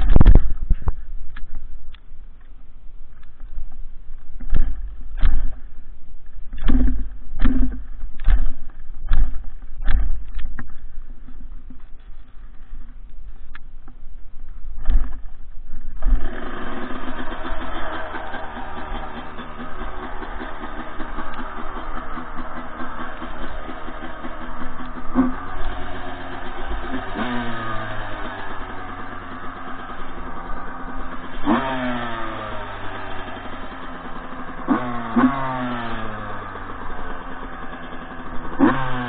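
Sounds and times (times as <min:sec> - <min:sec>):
dirt bike kick-start thumps: 0:00.0 - 0:02.5, 0:03.2 - 0:39.0
dirt bike engine buzzing: 0:03.2 - 0:39.0.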